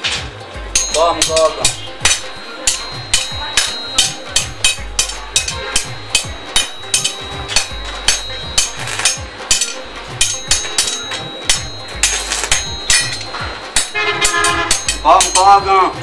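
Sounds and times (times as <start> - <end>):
hammer striking steel rod: 0.0 - 16.0.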